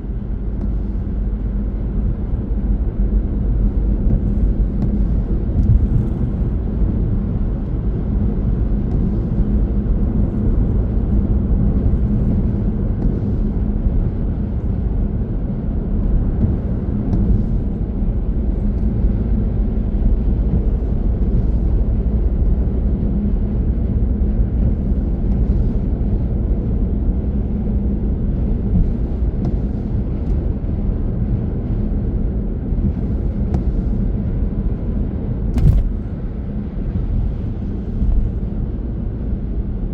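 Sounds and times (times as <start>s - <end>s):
car driving at speed: 0.0s - 39.9s.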